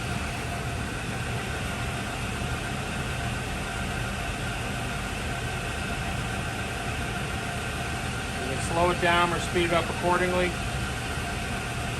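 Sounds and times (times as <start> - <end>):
lathe running: 0.0 - 11.9.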